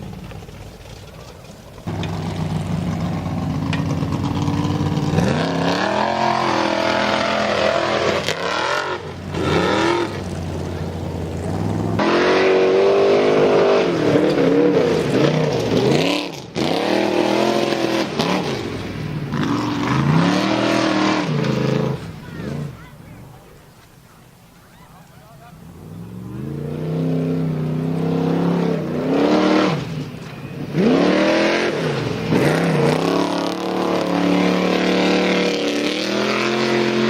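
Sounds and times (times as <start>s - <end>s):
car engine revving hard: 1.8s - 22.8s, 25.4s - 37.0s.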